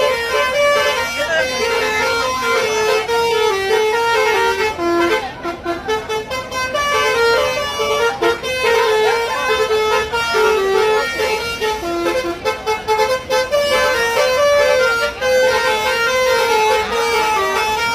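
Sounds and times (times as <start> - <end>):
musical air horns playing melody: 0.0 - 17.9.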